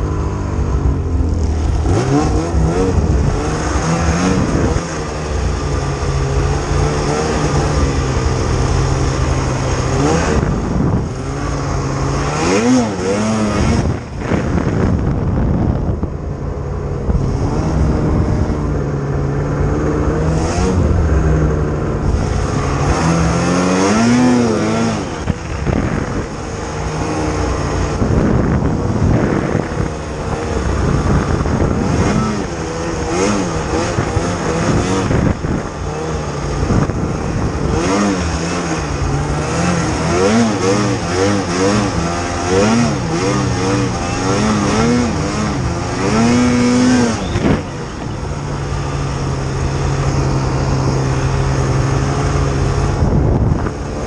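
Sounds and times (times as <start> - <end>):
snowmobile engine revving: 0.0 - 16.2, 16.8 - 54.0.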